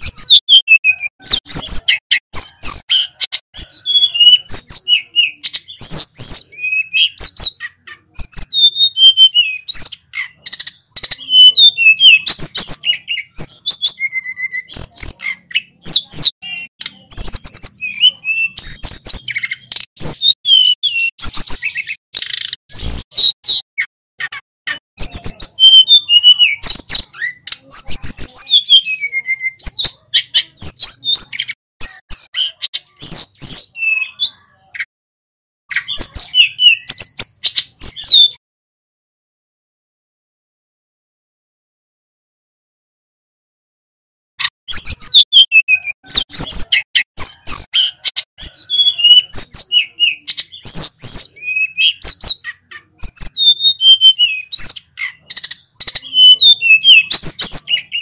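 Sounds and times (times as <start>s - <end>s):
bird singing whistles and trills: 0.0s - 34.9s, 35.7s - 38.4s, 44.7s - 58.0s.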